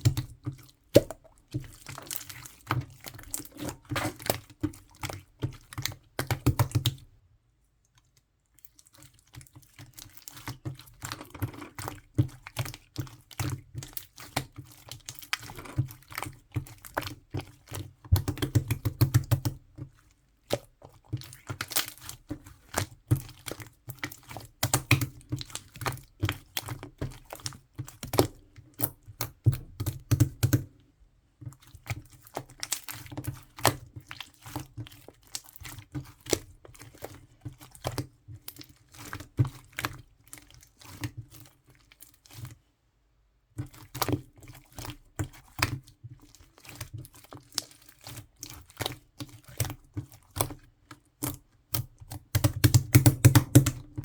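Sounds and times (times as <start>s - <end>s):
slime squishing with sticky pops: 0.0s - 7.2s, 8.2s - 30.8s, 31.4s - 42.5s, 43.5s - 54.0s.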